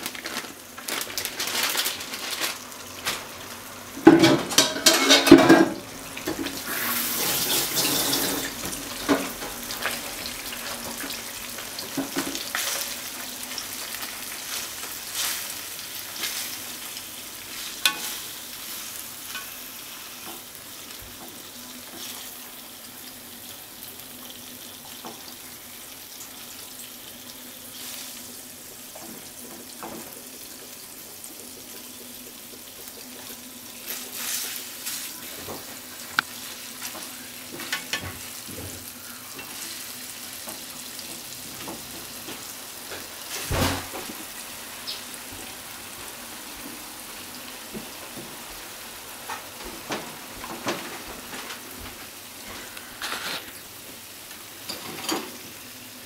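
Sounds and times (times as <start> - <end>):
tofu sizzling in a frying pan: 0.0 - 56.0.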